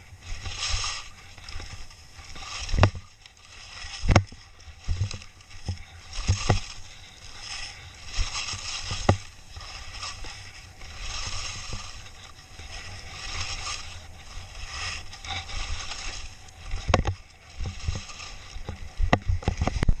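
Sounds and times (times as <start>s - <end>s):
skis scraping over snow: 0.0s - 20.0s.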